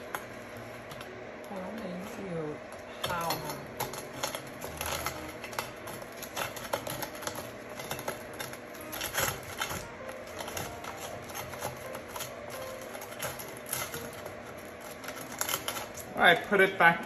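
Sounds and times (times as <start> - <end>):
spatula scraping wire fry basket: 2.4 - 16.8.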